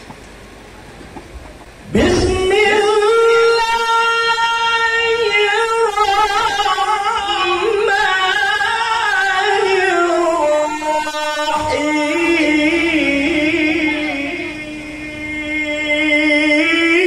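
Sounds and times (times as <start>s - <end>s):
man's melodic recitation: 1.9s - 17.0s.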